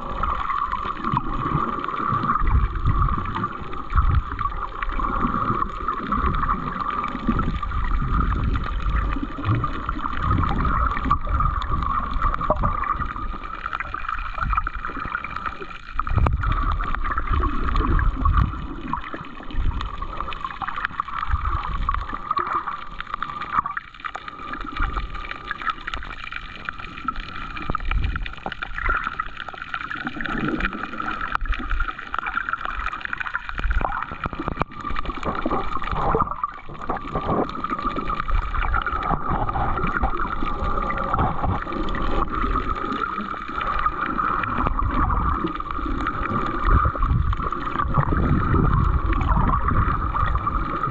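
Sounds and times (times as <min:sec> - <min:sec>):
muffled underwater water sloshing: 0:00.0 - 0:50.9.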